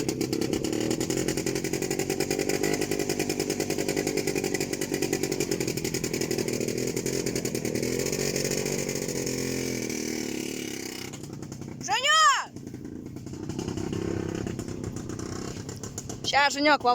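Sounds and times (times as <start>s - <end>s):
small vehicle engine buzzing: 0.0s - 16.9s.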